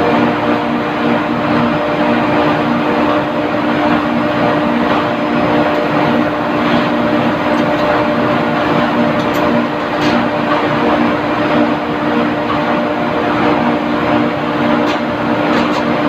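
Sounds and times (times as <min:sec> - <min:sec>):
industrial machinery drone: 0:00.0 - 0:16.0.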